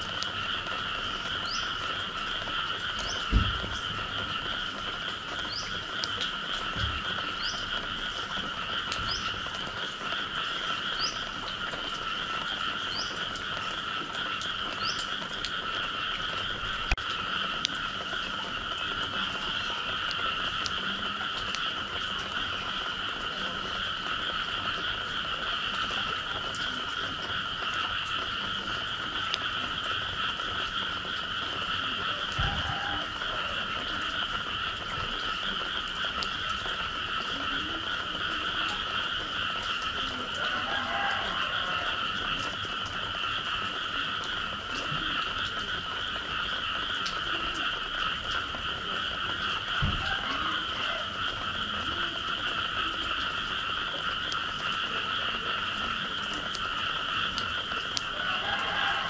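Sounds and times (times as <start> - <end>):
frog chorus trilling: 0.0 - 59.0.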